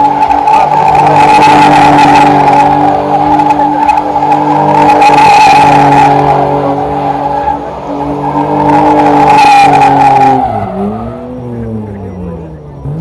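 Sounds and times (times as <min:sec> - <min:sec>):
tyres squealing: 0:00.0 - 0:11.4
car engine at high revs: 0:00.0 - 0:13.0.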